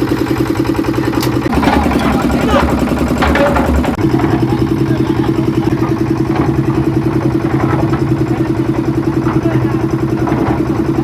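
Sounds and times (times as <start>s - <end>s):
machinery engine pulsing: 0.0s - 11.0s.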